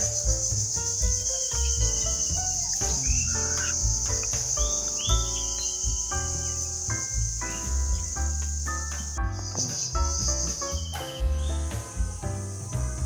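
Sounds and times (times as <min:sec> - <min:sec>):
background music with pulsing bass: 0:00.0 - 0:13.0
crickets chirring: 0:00.0 - 0:13.0.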